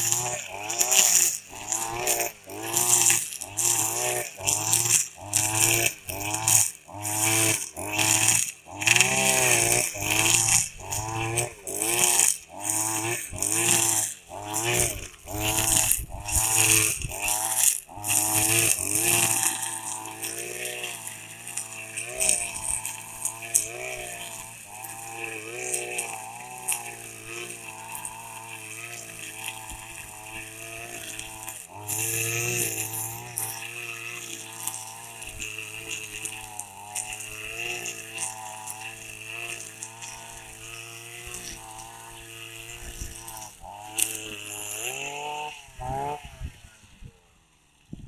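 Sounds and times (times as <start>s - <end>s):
string trimmer cutting grass: 0.0s - 48.0s.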